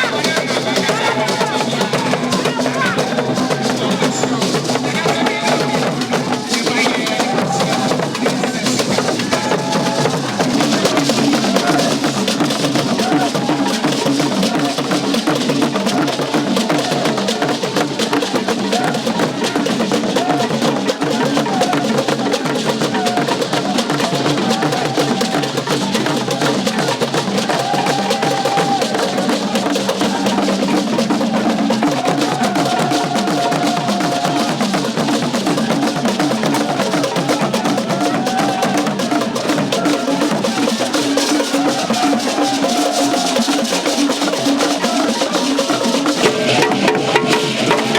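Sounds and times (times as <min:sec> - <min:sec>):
drums playing steady rhythm: 0:00.0 - 0:47.9.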